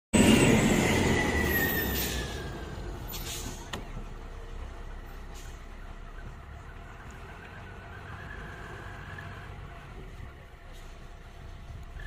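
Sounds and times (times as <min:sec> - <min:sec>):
heavy vehicle passing with whine: 0:00.2 - 0:12.0.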